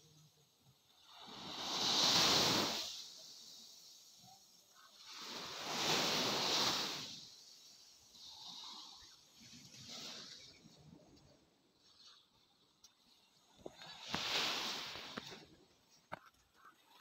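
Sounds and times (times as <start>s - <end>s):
small waves washing on sand: 0.2s - 17.0s.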